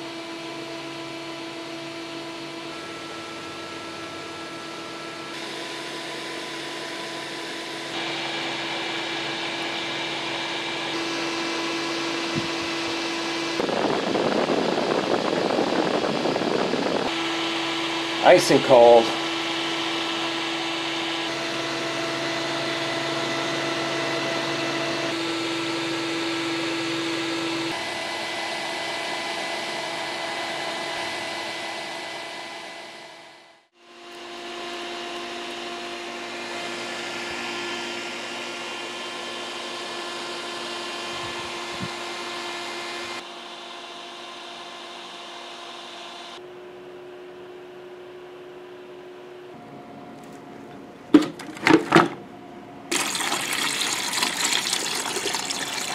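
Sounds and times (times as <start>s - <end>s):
electric fan whirring: 0.0s - 55.9s.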